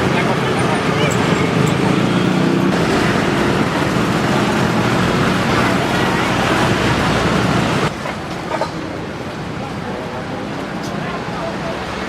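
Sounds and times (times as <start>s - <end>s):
large engine drone: 0.0s - 10.6s
heavy traffic passing: 0.0s - 12.0s.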